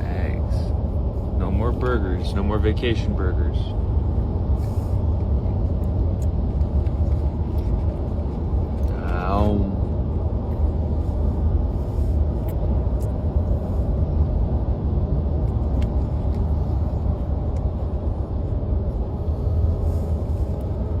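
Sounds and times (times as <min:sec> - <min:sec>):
vehicle road noise rumble: 0:00.0 - 0:21.0.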